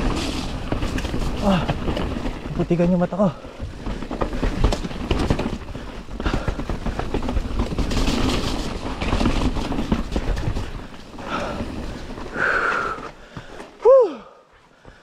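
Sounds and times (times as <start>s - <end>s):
bike rattling over rough ground: 0.0s - 15.0s
bike tyres on dirt: 0.0s - 15.0s.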